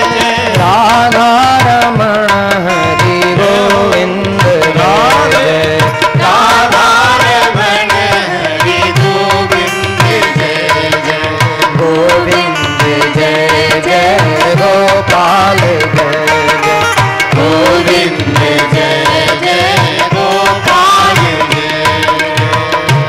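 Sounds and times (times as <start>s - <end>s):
devotional singing: 0.0s - 23.0s
hand drums steady beat: 0.0s - 23.0s.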